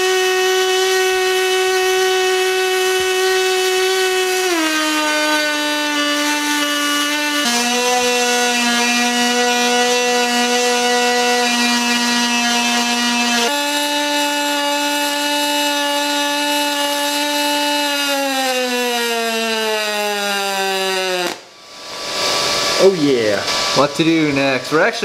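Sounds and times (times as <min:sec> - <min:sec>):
welding arc buzz: 0:00.0 - 0:22.9.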